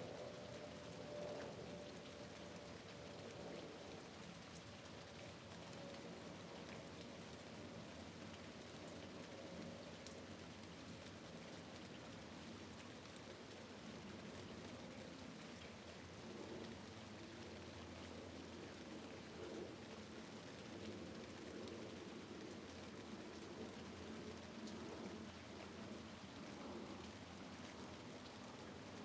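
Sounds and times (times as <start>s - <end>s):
rain pattering on window: 0.1s - 29.0s.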